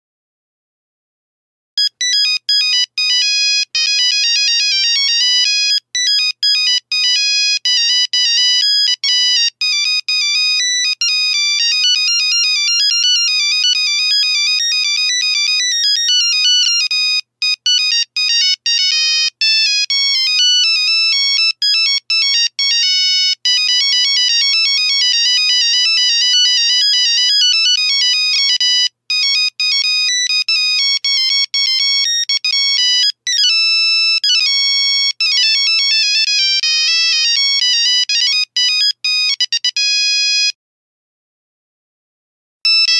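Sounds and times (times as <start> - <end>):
monophonic ringtone beeping notes: 1.8 - 40.5.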